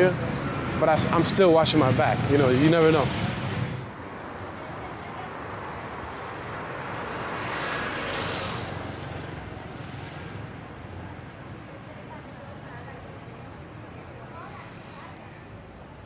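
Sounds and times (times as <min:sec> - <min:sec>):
engine of passing vehicle: 0:00.0 - 0:15.8.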